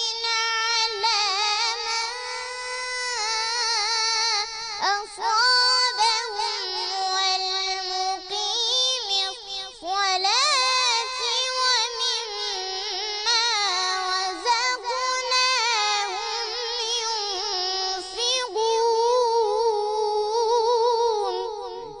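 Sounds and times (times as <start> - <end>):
child chanting melodically: 0.0 - 22.0.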